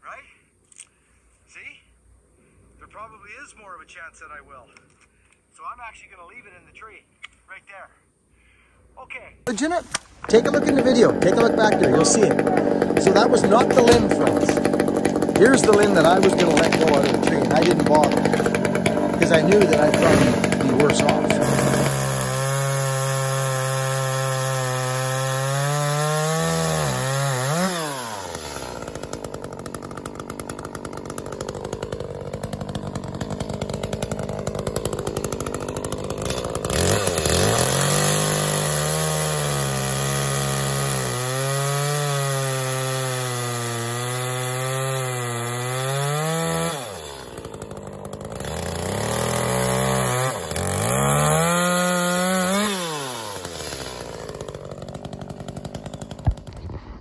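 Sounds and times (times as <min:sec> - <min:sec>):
chainsaw cutting log: 0:09.5 - 0:57.0.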